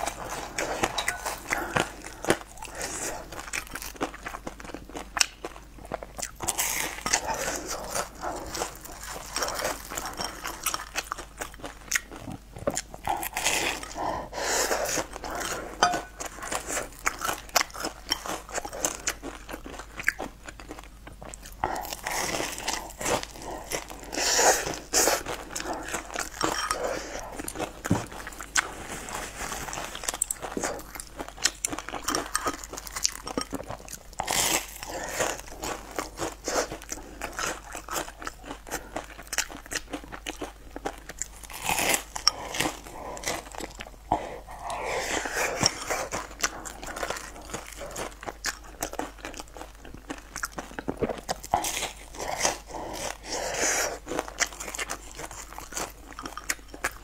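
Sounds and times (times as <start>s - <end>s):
person crunching fried food: 0.0s - 57.0s.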